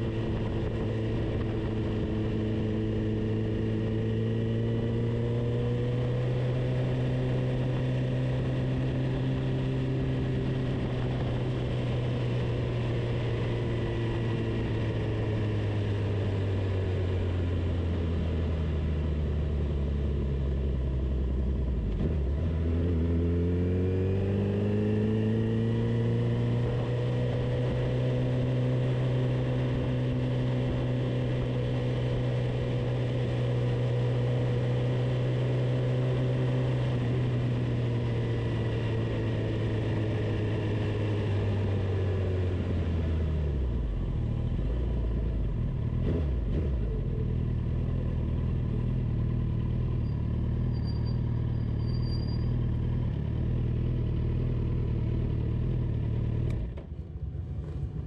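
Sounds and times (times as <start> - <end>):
road and wind noise: 0.0 - 58.0.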